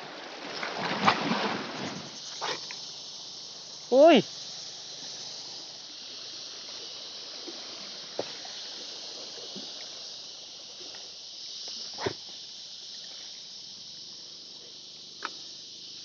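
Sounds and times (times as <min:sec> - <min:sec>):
outdoor ambience hiss: 0:00.0 - 0:16.0.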